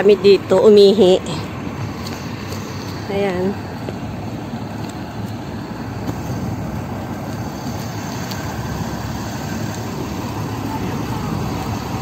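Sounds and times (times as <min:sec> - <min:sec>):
diesel bus engine idling: 0:00.0 - 0:12.0.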